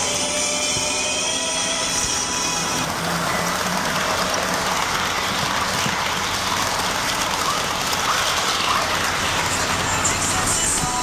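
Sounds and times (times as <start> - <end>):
model train rolling on track: 1.2 - 11.0.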